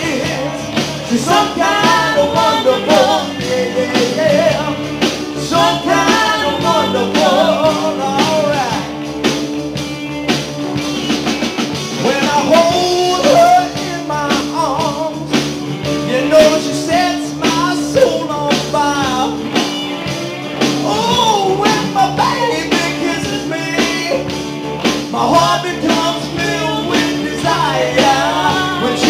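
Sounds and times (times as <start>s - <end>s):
live rock band playing: 0.0s - 29.0s
wavering lead melody: 0.0s - 29.0s.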